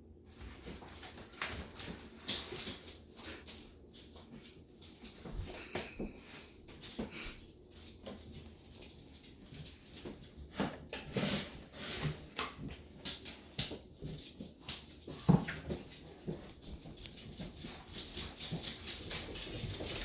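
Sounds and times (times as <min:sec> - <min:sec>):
kitten scuffling and pouncing: 0:00.3 - 0:20.0.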